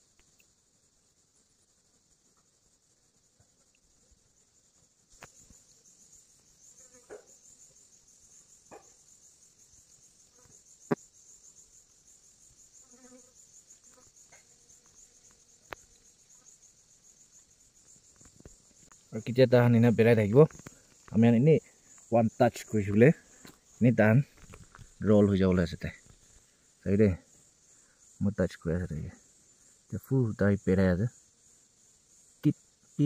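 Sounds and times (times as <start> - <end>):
faint chirps: 0.0 - 33.0
insects chirring: 0.0 - 33.0.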